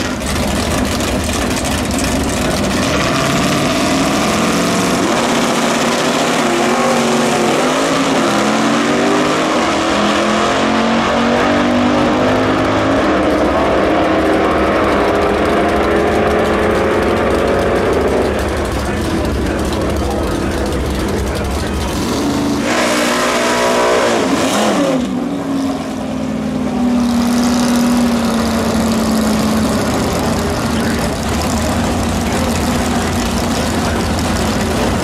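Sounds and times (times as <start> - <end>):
drag car engines at full throttle: 0.0 - 35.0.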